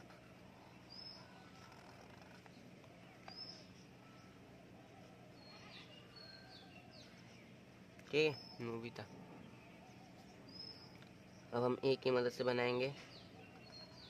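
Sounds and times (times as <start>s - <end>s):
faint high bird chirps: 0.0s - 14.0s.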